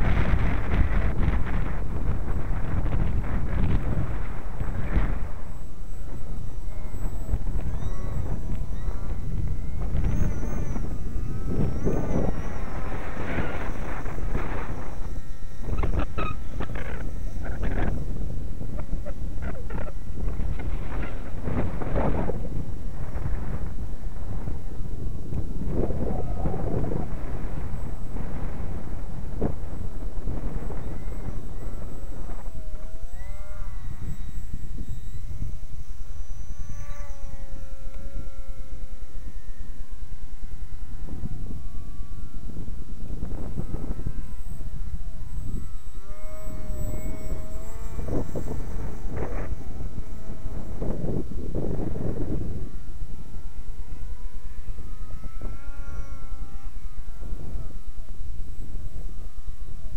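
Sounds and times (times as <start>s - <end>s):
model plane motor whine: 0.0s - 59.9s
wind buffeting microphone: 0.0s - 59.9s.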